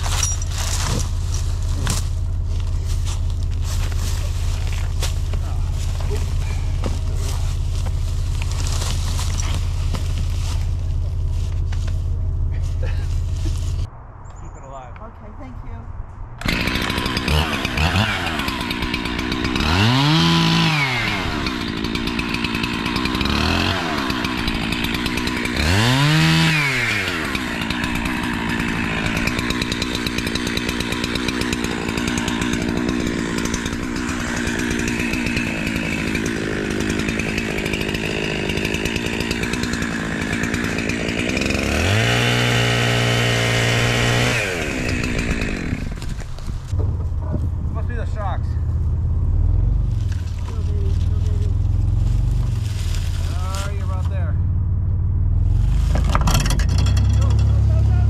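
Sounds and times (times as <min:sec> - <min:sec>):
chainsaw revving and idling: 0:00.0 - 0:13.8, 0:16.4 - 0:46.8, 0:47.8 - 0:54.6, 0:55.2 - 0:58.0.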